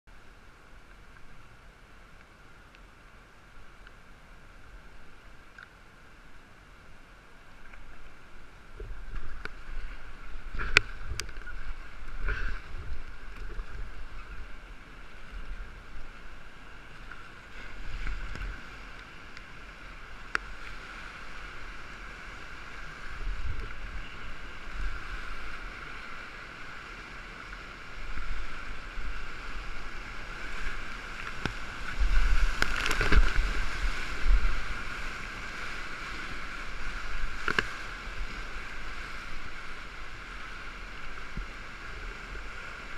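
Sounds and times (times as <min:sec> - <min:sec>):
whitewater rushing and splashing: 0:00.1 - 0:42.9
wind rumble on microphone: 0:06.3 - 0:42.9.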